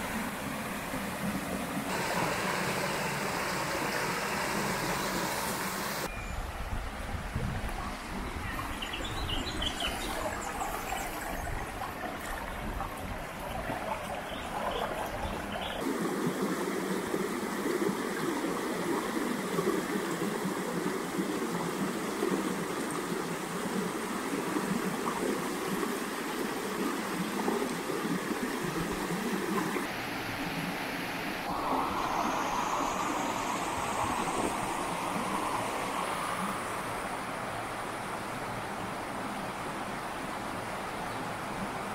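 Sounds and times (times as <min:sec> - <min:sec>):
creek water rushing over rocks: 0:00.0 - 0:06.1, 0:07.1 - 0:41.9.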